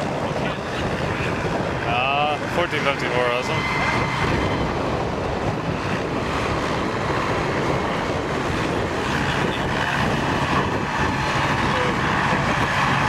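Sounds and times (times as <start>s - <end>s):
tractor engines running under load: 0.0s - 13.0s
wind on microphone: 0.0s - 13.0s.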